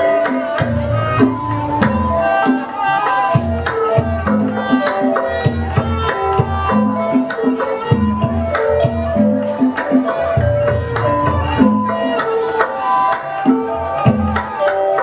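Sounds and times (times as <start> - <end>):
melody of clear pitched notes: 0.0 - 15.0.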